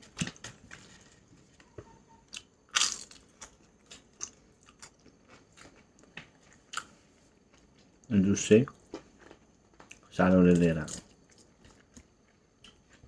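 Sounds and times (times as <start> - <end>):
person crunching and chewing food: 0.0 - 1.6, 2.2 - 13.0.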